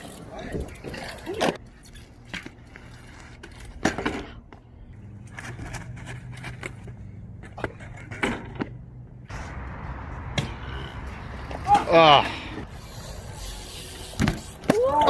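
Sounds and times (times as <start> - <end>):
bike wheels rolling on concrete: 0.0 - 15.0.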